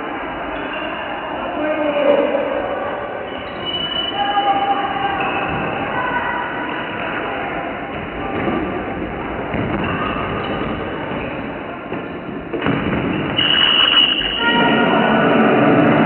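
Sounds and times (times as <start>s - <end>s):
players moving in hall: 0.0s - 16.0s
voices of players and spectators: 0.0s - 16.0s.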